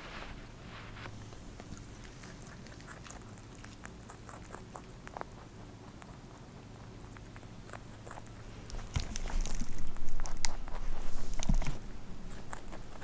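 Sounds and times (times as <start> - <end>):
rabbit chewing: 0.0 - 13.0.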